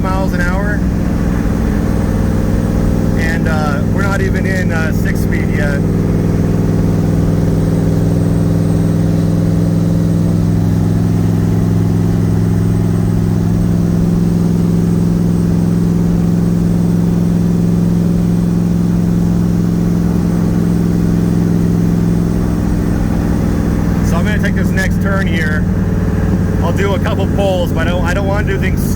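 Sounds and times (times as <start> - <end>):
car engine droning at cruise: 0.0 - 28.9.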